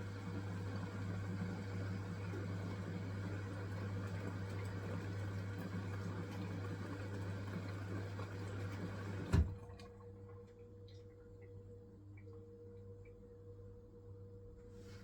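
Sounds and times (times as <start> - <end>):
washing machine humming: 0.0 - 13.4.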